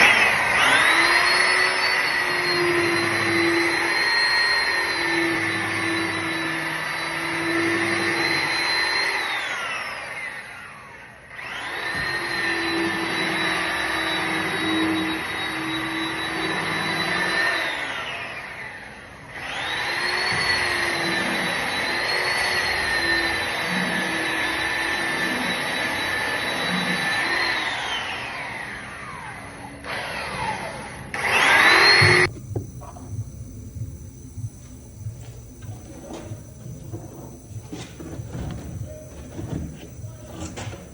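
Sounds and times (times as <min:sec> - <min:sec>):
electric motor whining: 0:00.0 - 0:10.7, 0:11.4 - 0:17.9, 0:19.4 - 0:29.2, 0:31.2 - 0:40.9.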